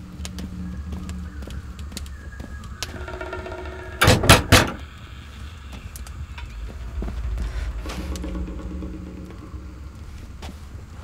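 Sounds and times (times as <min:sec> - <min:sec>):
background score with low drone: 0:00.0 - 0:11.0.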